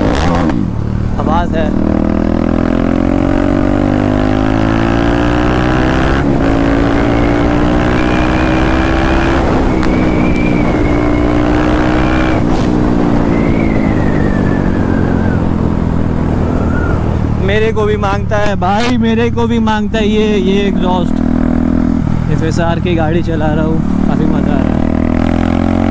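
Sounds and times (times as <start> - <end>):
motorcycle engine accelerating: 0.0 - 25.9.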